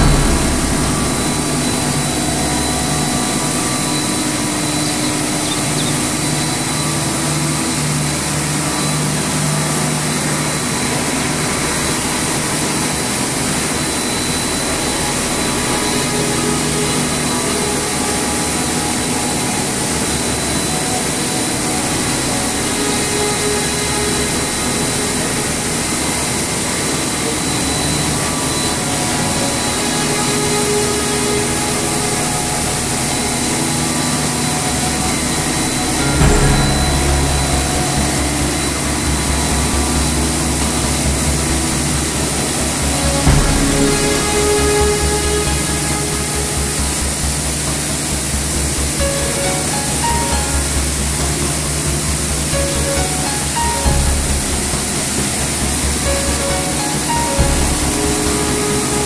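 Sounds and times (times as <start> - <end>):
machine noise with high whine: 0.0 - 59.0.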